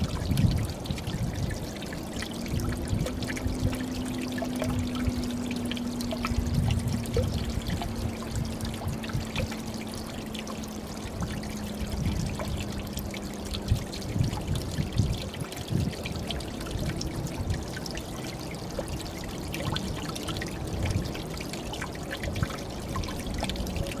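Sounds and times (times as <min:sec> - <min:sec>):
steady low hum: 0:00.0 - 0:24.0
waterfall pouring into pool: 0:00.0 - 0:24.0.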